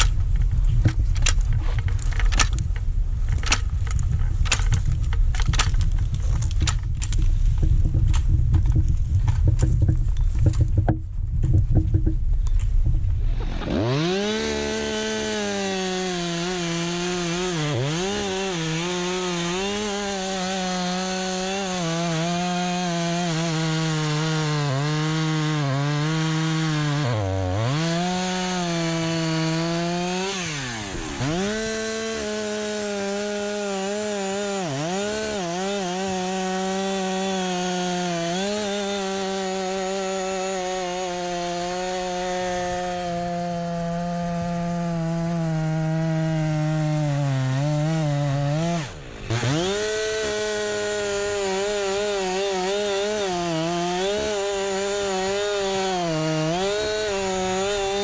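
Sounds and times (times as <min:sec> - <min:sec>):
chainsaw cutting wood: 0:00.0 - 0:12.2, 0:13.0 - 0:58.0.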